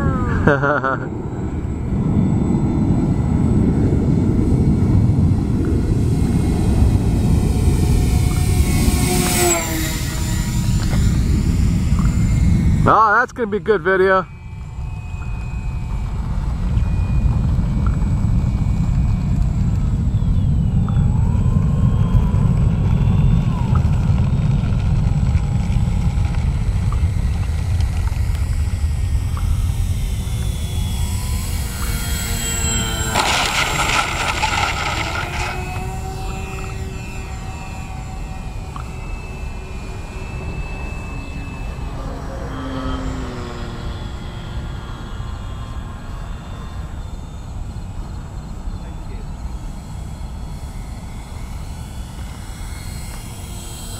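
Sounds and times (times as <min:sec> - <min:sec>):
low rumbling noise: 0:00.0 - 0:53.9
model plane motor drone: 0:00.0 - 0:53.9.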